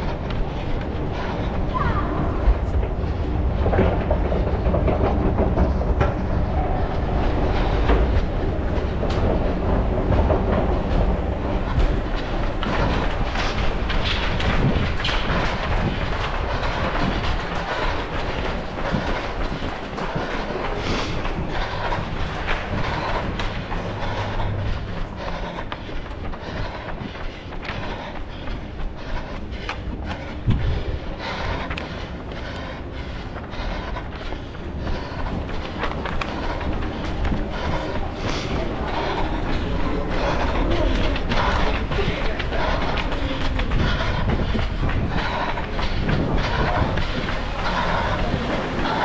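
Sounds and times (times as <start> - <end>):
runner's footsteps: 0.0 - 49.0.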